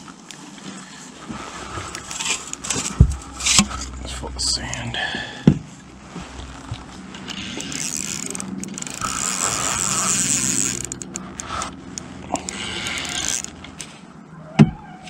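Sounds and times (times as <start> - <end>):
mechanical whirring: 1.2 - 14.1.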